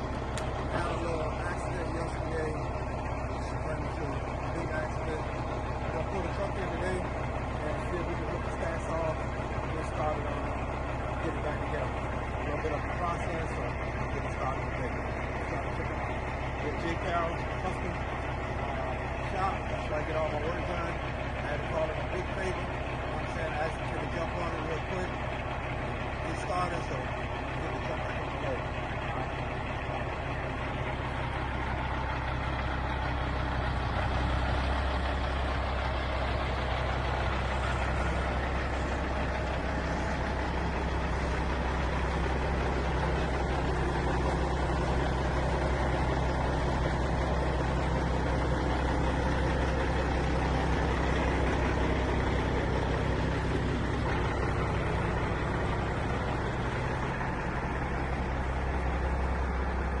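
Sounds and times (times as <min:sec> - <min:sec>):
truck diesel engine idling: 0:00.0 - 1:00.0.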